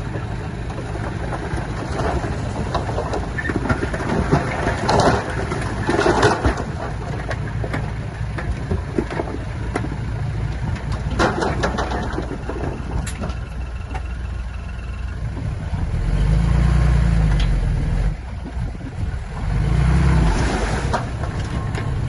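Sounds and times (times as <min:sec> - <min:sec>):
diesel engine running: 0:00.0 - 0:22.0
rattling crunching clatter: 0:00.0 - 0:22.0.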